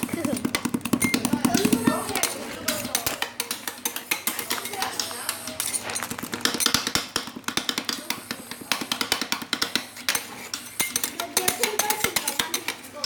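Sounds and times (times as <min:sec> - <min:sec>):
metal scrapers clacking on steel plate: 0:00.0 - 0:13.0.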